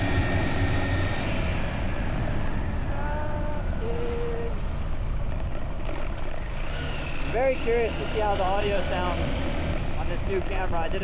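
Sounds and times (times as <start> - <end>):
motorbike engine and road noise: 0.0 - 11.0.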